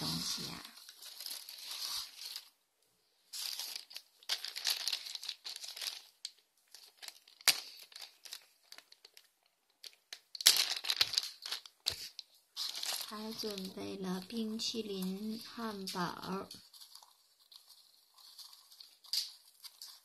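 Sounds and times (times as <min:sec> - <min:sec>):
plastic wrapping crinkling: 0:00.0 - 0:02.6, 0:03.3 - 0:20.0.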